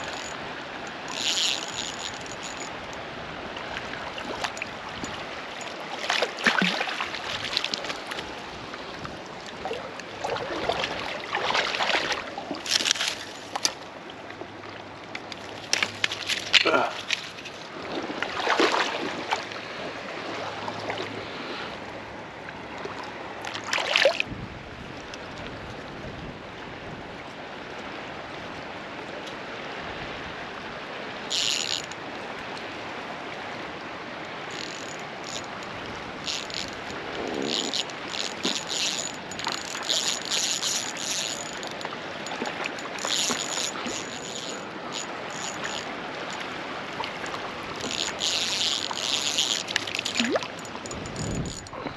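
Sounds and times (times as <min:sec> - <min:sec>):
stream flowing: 0:00.0 - 0:51.9.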